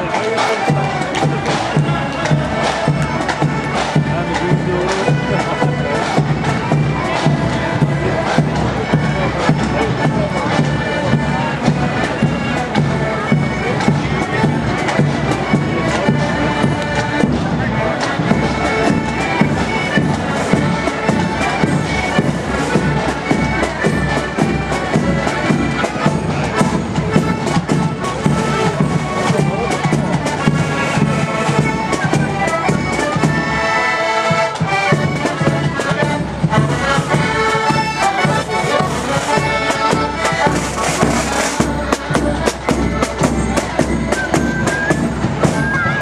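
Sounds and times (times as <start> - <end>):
accordions playing chords: 0.0 - 46.0.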